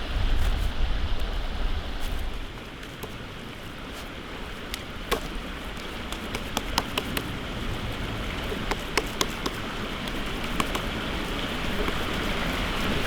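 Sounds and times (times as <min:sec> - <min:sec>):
oil popping and crackling: 0:02.4 - 0:13.0.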